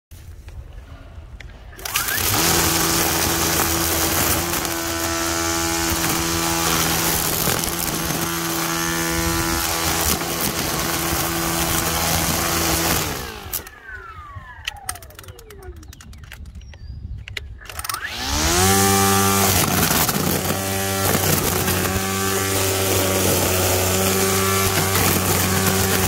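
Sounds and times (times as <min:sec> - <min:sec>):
string trimmer running: 0:01.8 - 0:15.8, 0:17.6 - 0:26.0
trimmer head cutting grass: 0:01.8 - 0:16.2, 0:17.6 - 0:26.0.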